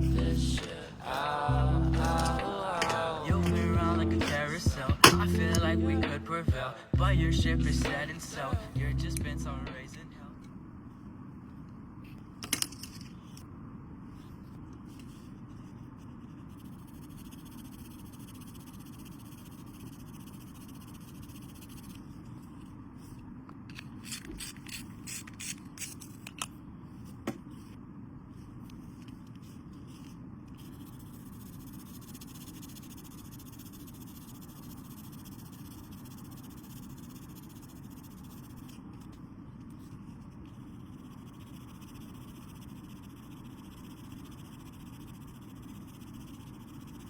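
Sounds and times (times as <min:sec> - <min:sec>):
low background noise: 0:00.0 - 0:47.0.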